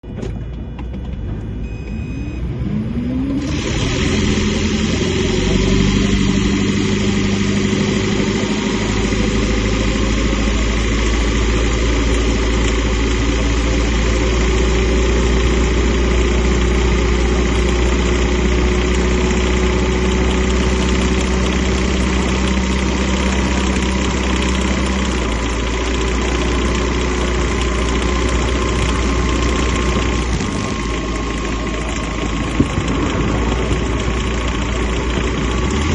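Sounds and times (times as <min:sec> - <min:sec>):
car engine starting and running: 0:00.0 - 0:35.9.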